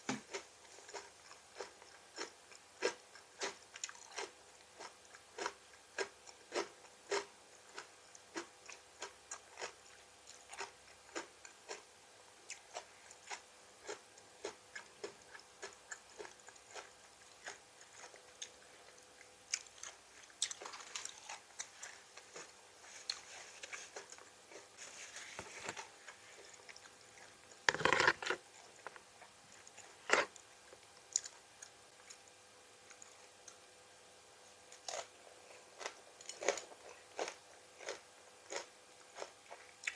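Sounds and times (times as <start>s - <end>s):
person chewing crunchy vegetables: 0.2s - 11.9s, 12.5s - 32.1s, 34.8s - 39.9s.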